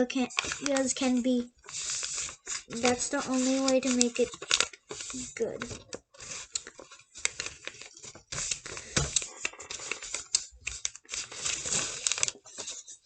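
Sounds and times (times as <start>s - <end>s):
paper being folded: 0.0s - 13.0s.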